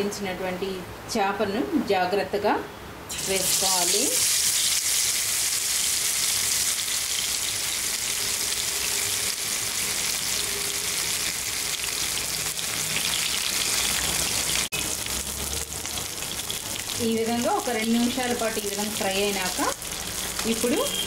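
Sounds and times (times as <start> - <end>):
fish sizzling in hot oil: 3.1 - 21.0.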